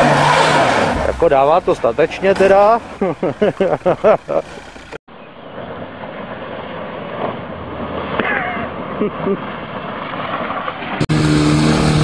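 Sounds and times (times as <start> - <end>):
car engine drone: 0.0 - 12.0.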